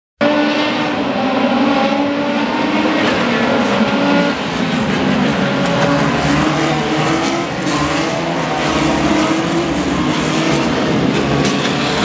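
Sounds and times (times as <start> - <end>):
race car engine at high revs: 0.2 - 12.0.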